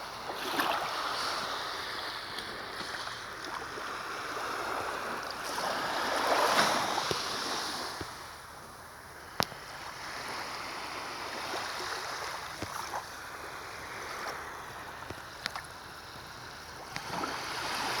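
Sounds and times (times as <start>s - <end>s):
sea waves washing in: 0.0s - 18.0s
wind: 0.0s - 18.0s.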